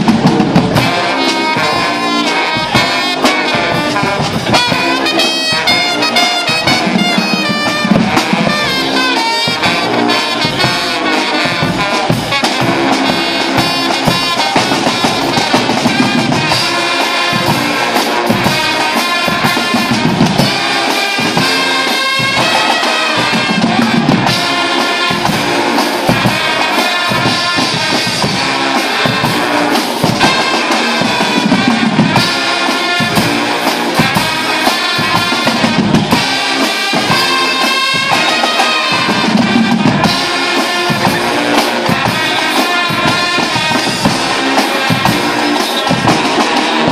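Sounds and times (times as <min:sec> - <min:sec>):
brass band with drums playing: 0:00.0 - 0:46.9.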